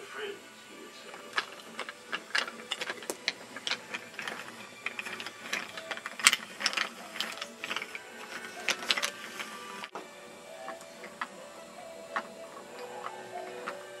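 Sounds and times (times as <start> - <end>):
toy train wheels clicking on track: 1.0 - 10.0, 10.6 - 14.0.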